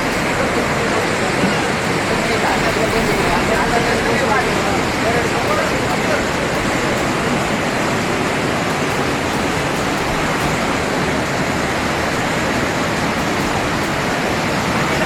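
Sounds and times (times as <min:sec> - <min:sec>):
heavy rain downpour: 0:00.0 - 0:15.0.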